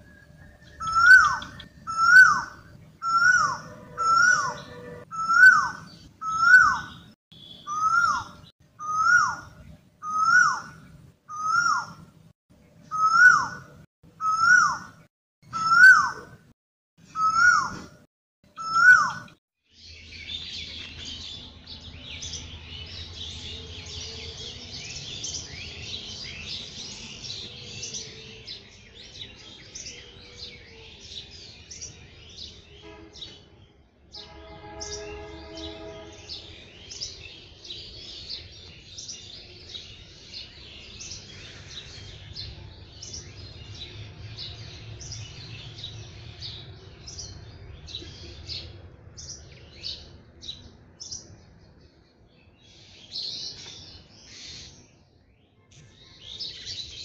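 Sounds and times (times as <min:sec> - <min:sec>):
small birds chirping: 0:00.0 - 0:12.1, 0:18.5 - 0:33.4, 0:34.8 - 0:57.0.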